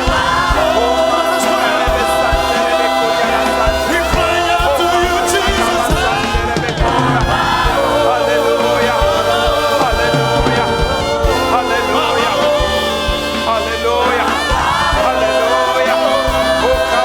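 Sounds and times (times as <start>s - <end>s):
congregation singing and praying: 0.0s - 17.0s
worship music: 0.0s - 17.0s.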